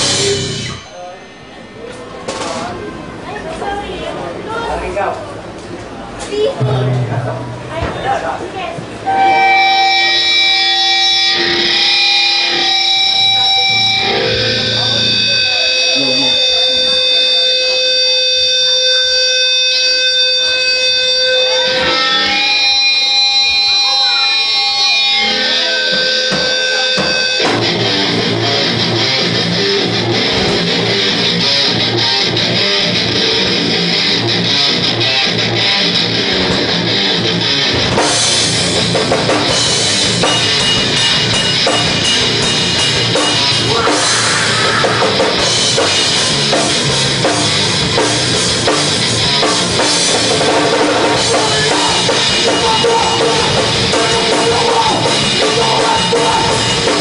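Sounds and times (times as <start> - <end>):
rock band playing: 0.0 - 3.8, 6.3 - 57.0.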